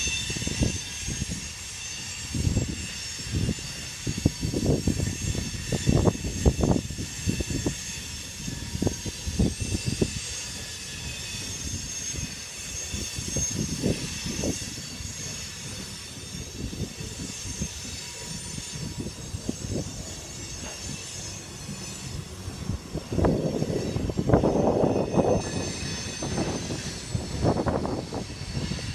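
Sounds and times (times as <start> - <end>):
train wheel squeal: 0.0 - 28.9.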